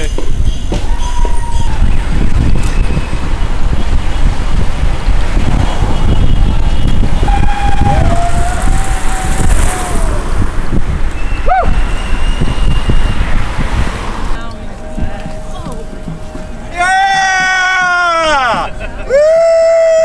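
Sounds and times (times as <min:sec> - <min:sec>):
wind buffeting microphone: 0:00.0 - 0:16.4.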